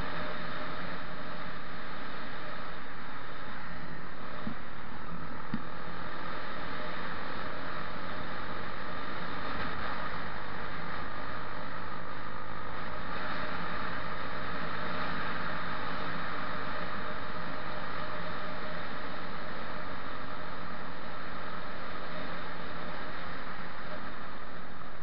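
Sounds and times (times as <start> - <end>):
low steady hum: 0.0 - 25.0
wind buffeting microphone: 0.0 - 25.0.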